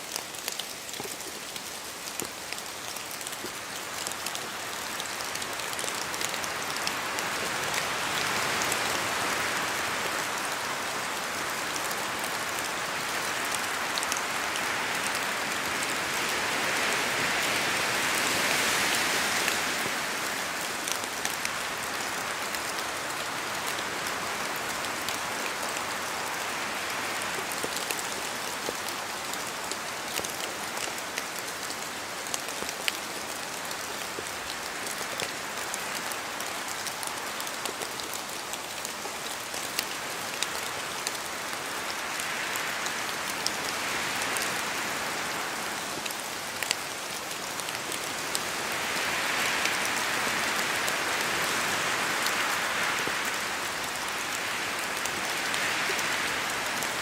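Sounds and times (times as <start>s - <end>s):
rain in a forest: 0.0s - 57.0s.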